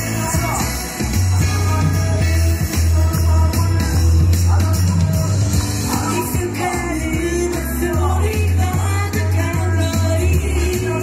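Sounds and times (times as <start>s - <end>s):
heavy bass line: 0.0s - 11.0s
pop song over loud speakers: 0.0s - 11.0s
woman singing: 1.4s - 11.0s.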